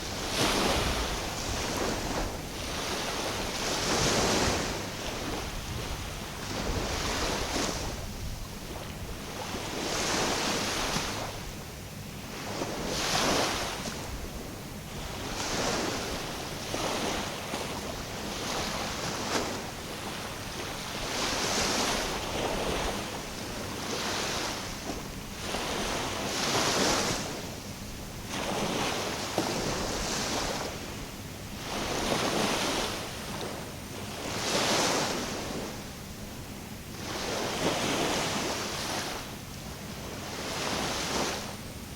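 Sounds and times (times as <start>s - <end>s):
small sea waves breaking on shore: 0.0s - 41.9s.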